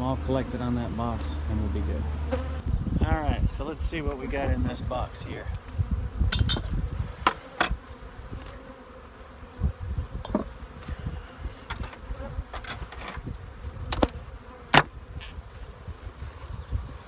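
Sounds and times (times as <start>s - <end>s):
wind rumbling on microphone: 0.0s - 8.7s, 9.5s - 17.0s
honey bees buzzing: 0.0s - 17.0s.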